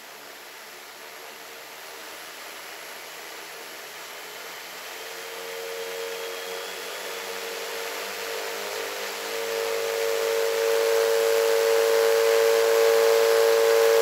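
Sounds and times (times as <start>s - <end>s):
steady hum tone: 0.0s - 14.0s.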